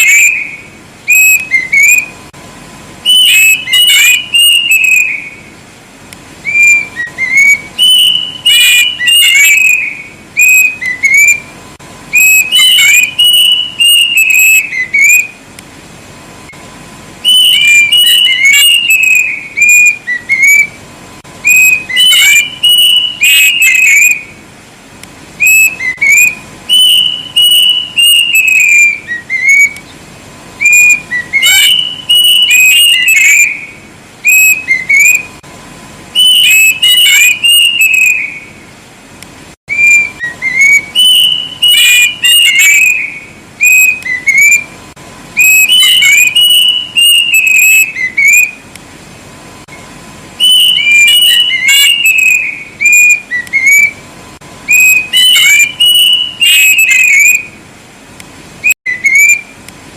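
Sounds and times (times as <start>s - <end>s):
cuckoo singing: 0.0s - 2.3s, 3.0s - 5.6s, 6.4s - 15.4s, 17.2s - 24.4s, 25.4s - 35.4s, 36.2s - 38.6s, 39.7s - 44.8s, 45.4s - 48.7s, 49.7s - 54.1s, 54.7s - 57.6s, 58.6s - 59.7s.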